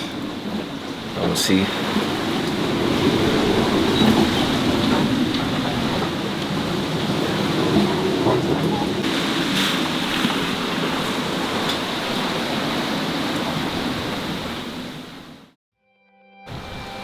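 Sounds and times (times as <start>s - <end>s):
waves washing along hull: 0.0s - 15.6s
wind and sea rushing: 0.0s - 15.6s, 16.5s - 17.0s.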